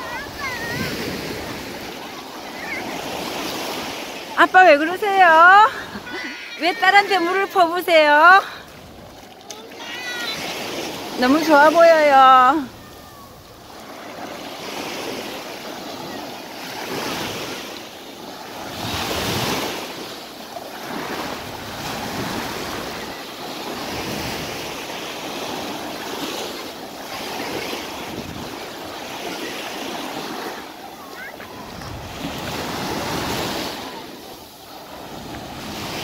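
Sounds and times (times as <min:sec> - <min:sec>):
sea surf washing on beach: 0:00.0 - 0:36.0.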